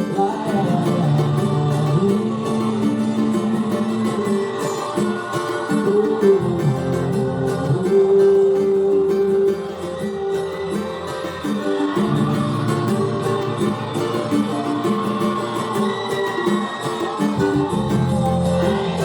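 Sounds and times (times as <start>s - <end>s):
cavaquinho strumming chords: 0.0s - 19.0s.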